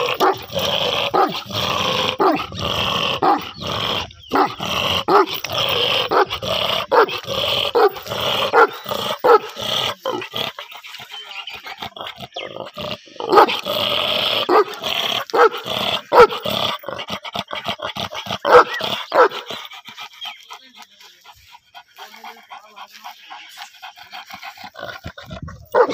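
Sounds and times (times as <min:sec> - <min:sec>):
large dog barking: 0:00.0 - 0:20.4, 0:21.2 - 0:25.9.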